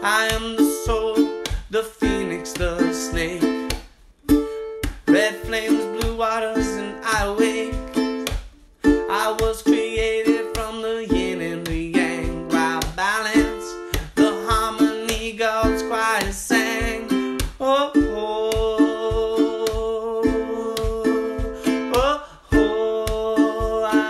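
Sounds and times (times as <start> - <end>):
plucked strings: 0.0 - 24.0
steady beat: 0.0 - 24.0.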